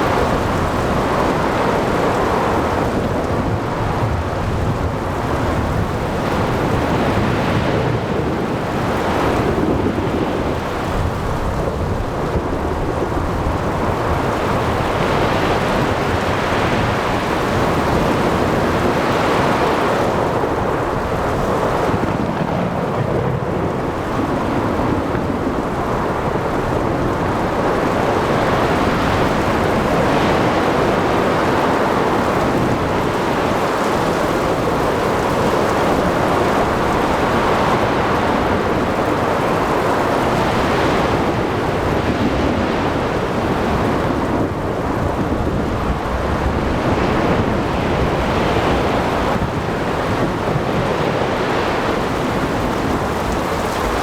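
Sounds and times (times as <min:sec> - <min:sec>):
steady rain: 0:00.0 - 0:54.0
waves breaking: 0:00.0 - 0:54.0
wind: 0:00.0 - 0:54.0.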